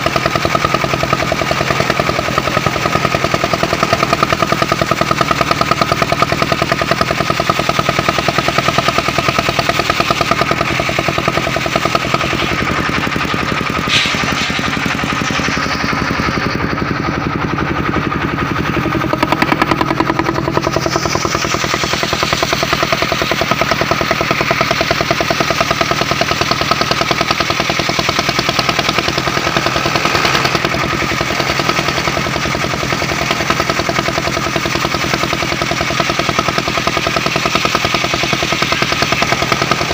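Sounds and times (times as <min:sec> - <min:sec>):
saw whine: 0:00.0 - 0:39.9
sawmill engine chugging: 0:00.0 - 0:39.9.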